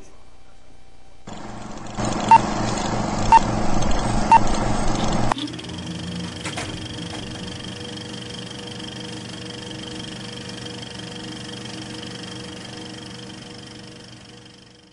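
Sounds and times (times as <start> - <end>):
droning hum of held tones: 0.0 - 14.9.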